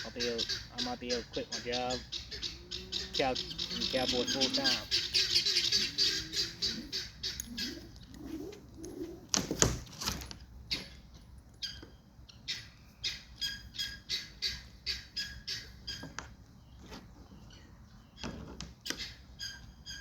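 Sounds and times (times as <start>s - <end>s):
birds calling in short high calls: 0.0s - 9.2s, 10.7s - 20.0s.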